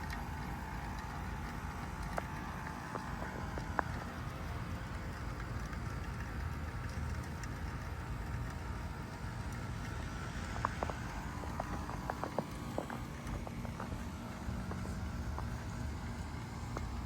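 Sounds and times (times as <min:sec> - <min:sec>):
faint ticks: 0:00.0 - 0:17.0
heat pump humming: 0:00.0 - 0:17.0.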